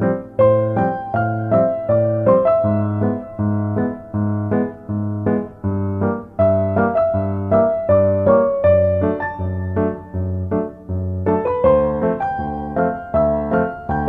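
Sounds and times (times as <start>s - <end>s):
keyboard melody: 0.0s - 14.0s.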